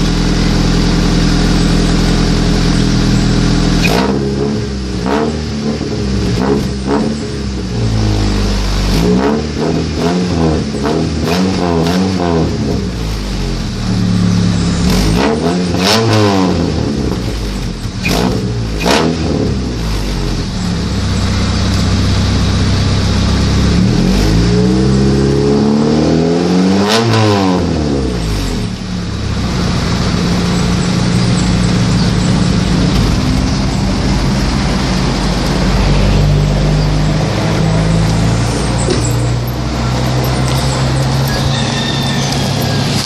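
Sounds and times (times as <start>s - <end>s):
car engine idling: 0.0s - 25.6s, 27.8s - 43.0s
car engine revving: 0.0s - 43.0s.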